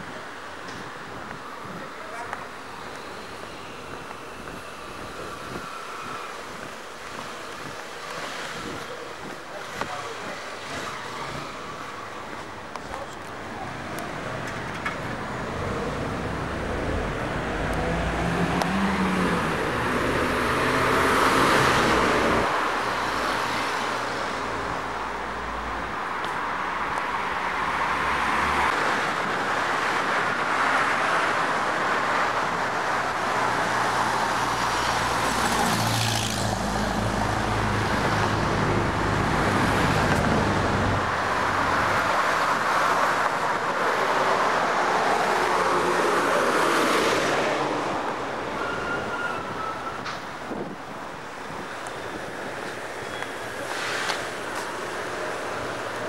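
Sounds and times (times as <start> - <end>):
cars driving by: 0.0 - 56.0.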